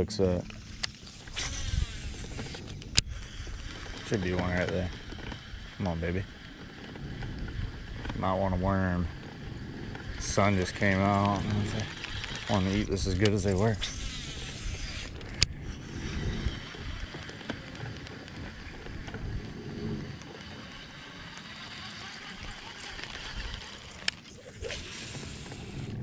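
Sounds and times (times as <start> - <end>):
fishing reel whirring: 0.0 - 26.0
sharp reel click: 0.4 - 8.5, 9.1 - 26.0.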